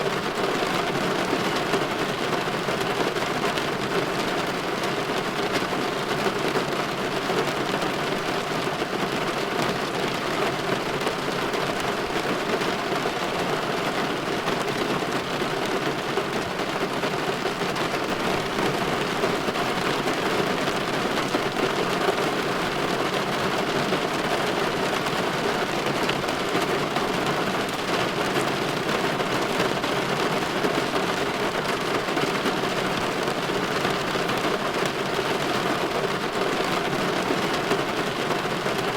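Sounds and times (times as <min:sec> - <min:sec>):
light rain on a window: 0:00.0 - 0:38.9.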